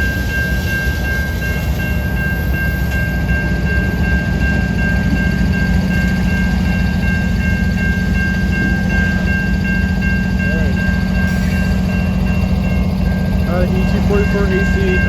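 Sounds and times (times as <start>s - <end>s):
diesel locomotive drone: 0.0s - 15.0s
level crossing bell ringing: 0.0s - 15.0s.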